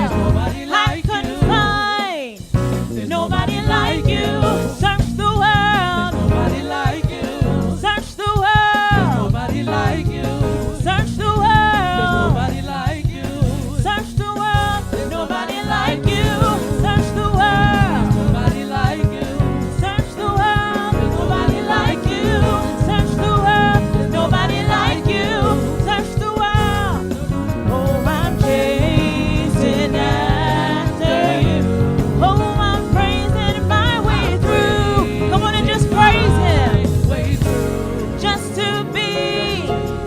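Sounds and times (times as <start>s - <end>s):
instrumental accompaniment: 0.0s - 7.9s, 8.6s - 40.0s
person singing with melismatic runs: 0.0s - 40.0s.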